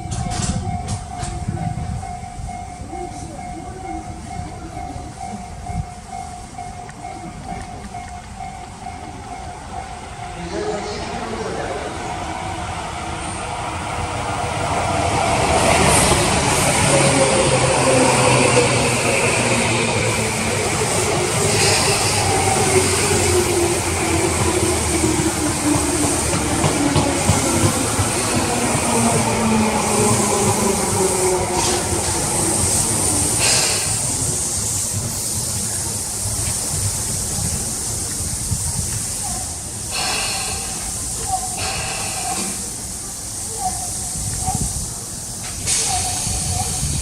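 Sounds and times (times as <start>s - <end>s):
train wheels on rails: 0.0s - 47.0s.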